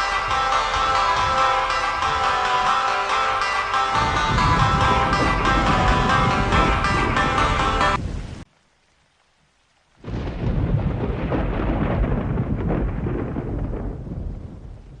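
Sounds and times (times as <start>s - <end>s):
thunder rumbling: 0.0s - 2.9s, 3.7s - 8.4s, 10.0s - 15.0s.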